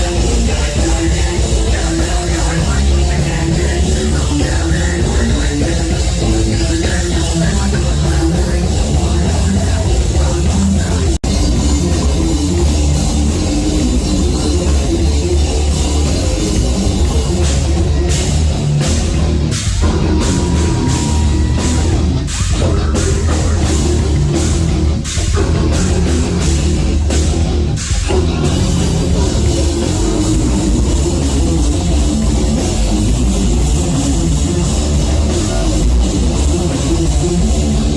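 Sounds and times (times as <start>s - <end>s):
heavy metal band playing live: 0.0s - 37.9s.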